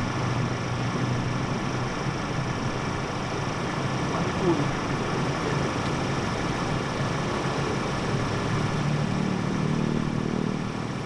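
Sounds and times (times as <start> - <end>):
mechanical engine-like hum: 0.0 - 11.0.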